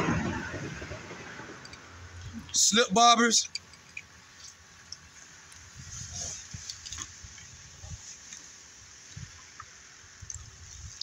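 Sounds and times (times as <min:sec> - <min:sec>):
low irregular rumbles: 0:00.0 - 0:11.0.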